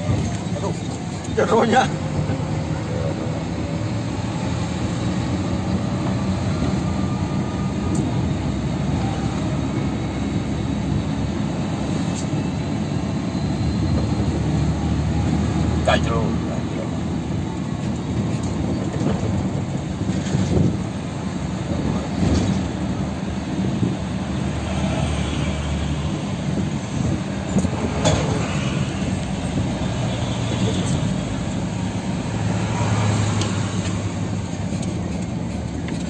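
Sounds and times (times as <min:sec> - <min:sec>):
road and tyre noise: 0:00.0 - 0:36.0
truck diesel engine hum: 0:00.0 - 0:36.0.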